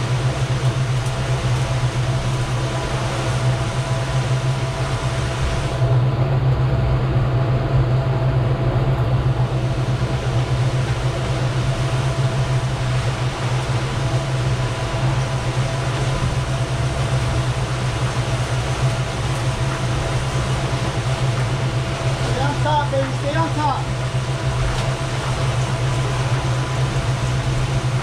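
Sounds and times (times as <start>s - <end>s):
faint steady whine: 0.0s - 28.0s
outboard motors droning: 0.0s - 28.0s
rushing wind and water: 0.0s - 28.0s.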